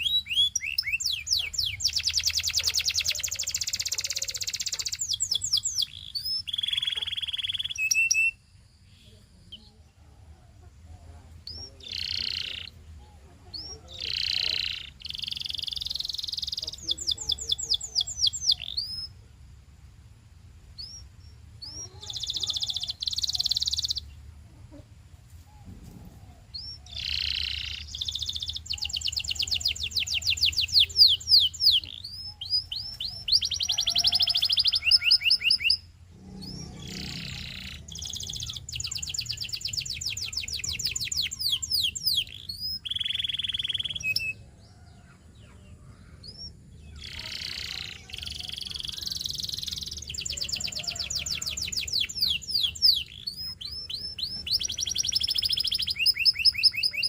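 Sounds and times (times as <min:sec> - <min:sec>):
canary singing trills: 0:00.0 - 0:19.3, 0:20.6 - 0:24.9, 0:25.5 - 0:57.0
faint low hum: 0:00.0 - 0:56.0.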